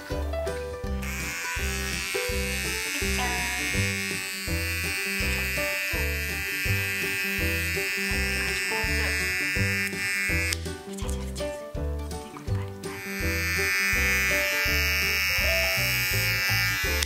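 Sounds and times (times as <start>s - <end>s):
nail grinder whining: 1.0s - 10.8s, 12.9s - 17.0s.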